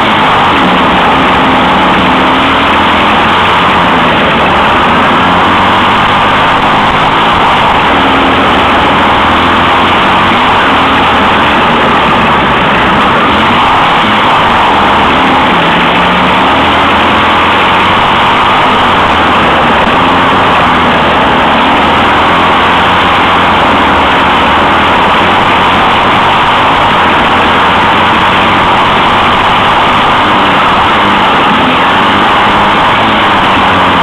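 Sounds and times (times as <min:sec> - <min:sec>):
kart engine running hard: 0:00.0 - 0:34.0.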